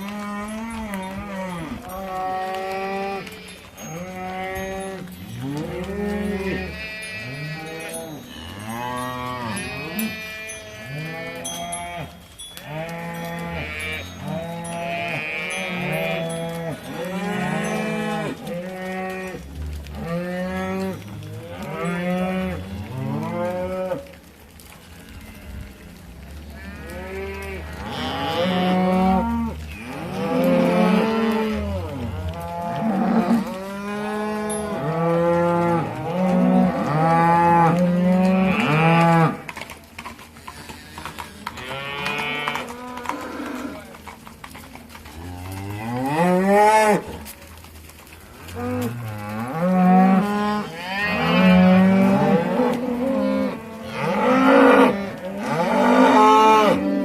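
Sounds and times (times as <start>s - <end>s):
cattle mooing: 0.0s - 24.2s, 25.0s - 39.6s, 40.5s - 44.0s, 48.4s - 57.0s.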